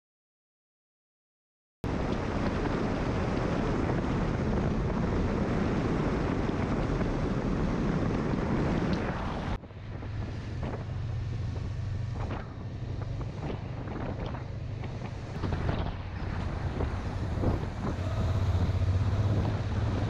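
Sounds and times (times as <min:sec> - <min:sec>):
wind buffeting microphone: 0:01.9 - 0:20.0.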